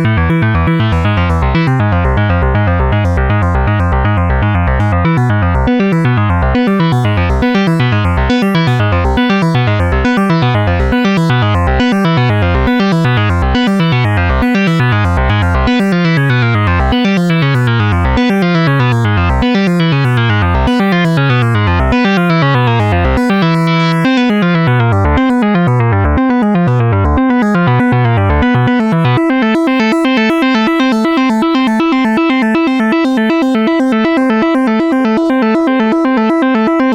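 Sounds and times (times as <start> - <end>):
synthesizer keyboard music: 0.0 - 36.9.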